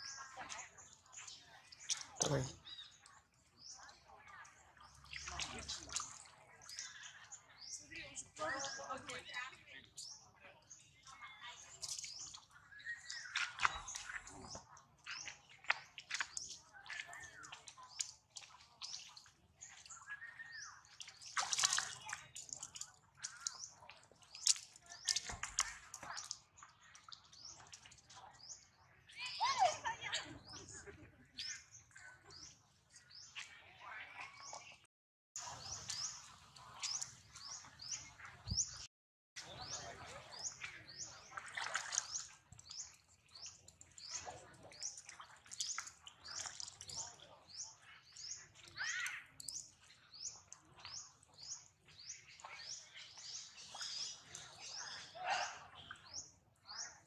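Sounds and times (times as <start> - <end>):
water splashing and dripping: 0.0 - 57.0.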